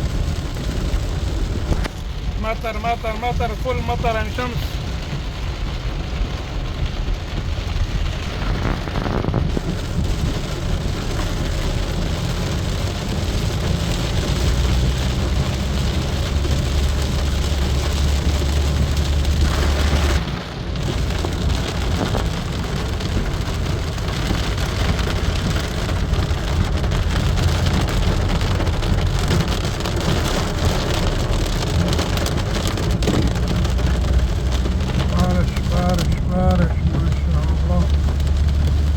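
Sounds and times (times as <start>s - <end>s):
rain pattering on surfaces: 0.0s - 38.9s
low rumble: 4.8s - 38.9s.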